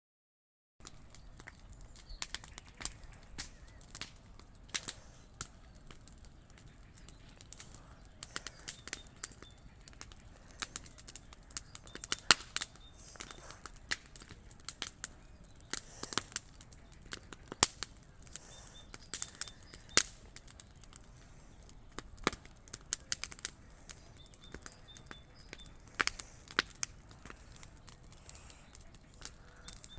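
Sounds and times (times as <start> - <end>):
bonfire crackling and popping: 0.8 - 29.9.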